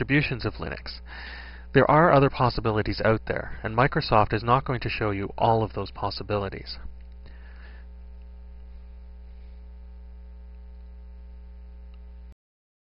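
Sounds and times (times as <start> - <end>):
electrical mains hum: 0.0 - 12.4.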